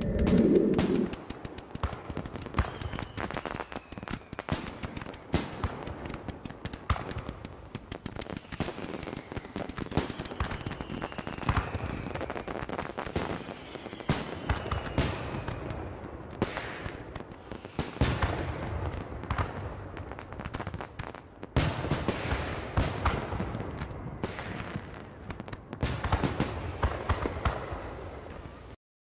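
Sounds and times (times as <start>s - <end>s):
fireworks bangs and crackles: 0.0s - 28.8s.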